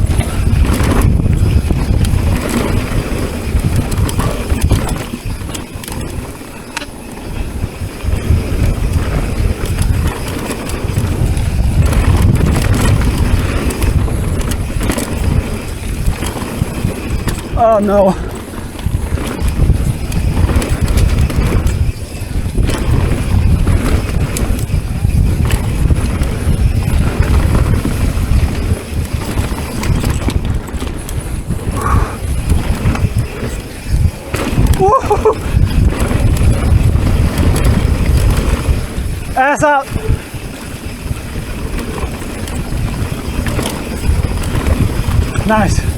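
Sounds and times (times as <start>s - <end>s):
bike rattling over dirt: 0.0s - 45.9s
wind rushing over microphone: 0.0s - 45.9s.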